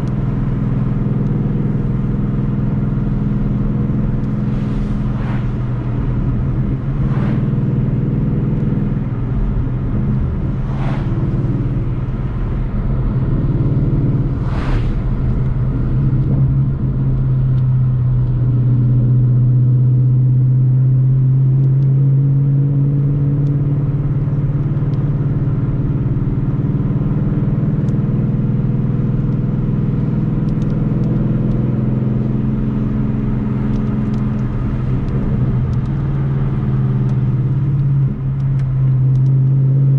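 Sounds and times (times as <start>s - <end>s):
car engine cruising: 0.0s - 39.9s
road noise: 0.0s - 39.9s.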